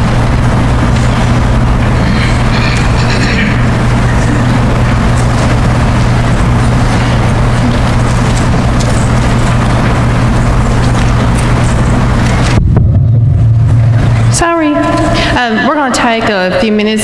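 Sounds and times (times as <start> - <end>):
low electrical hum: 0.0 - 17.0
steady loud hiss: 0.0 - 17.0.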